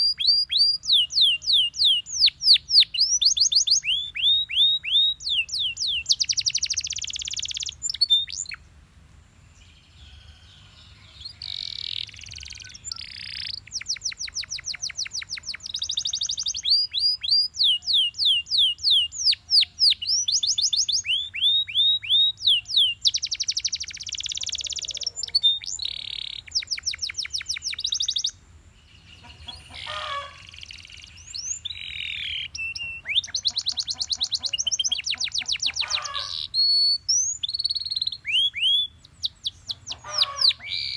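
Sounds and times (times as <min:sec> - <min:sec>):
canary singing trills: 0:00.0 - 0:08.6, 0:09.6 - 0:40.9.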